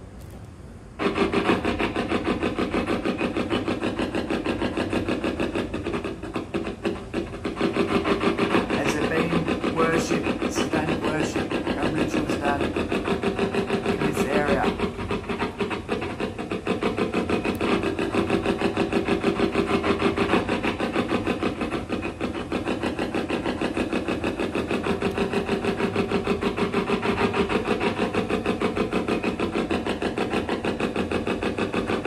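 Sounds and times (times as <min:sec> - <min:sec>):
rapid chopping radio static: 0:01.0 - 0:32.0.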